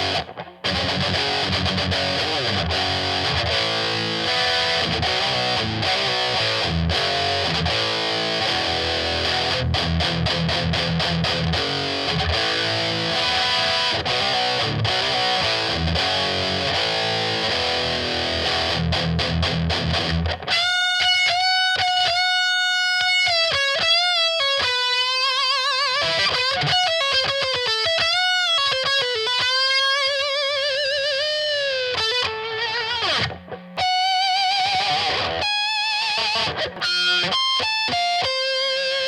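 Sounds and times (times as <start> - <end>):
overdriven electric guitar: 0.0 - 39.0.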